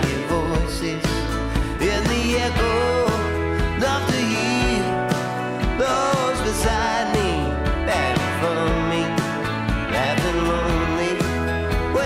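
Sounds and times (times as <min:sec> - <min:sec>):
guitar band with steady beat: 0:00.0 - 0:12.0
person singing: 0:00.0 - 0:12.0.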